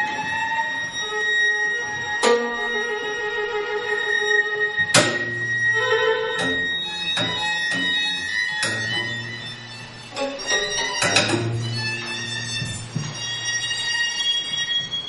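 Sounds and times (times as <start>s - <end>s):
string ensemble playing: 0.0s - 15.0s.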